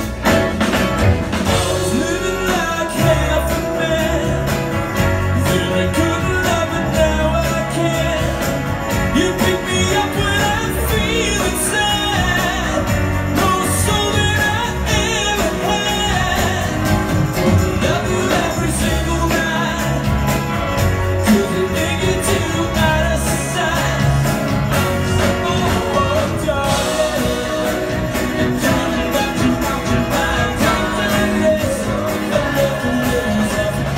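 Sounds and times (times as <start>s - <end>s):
rock-pop band playing live: 0.0s - 33.9s
lead singer vocal: 1.5s - 33.9s.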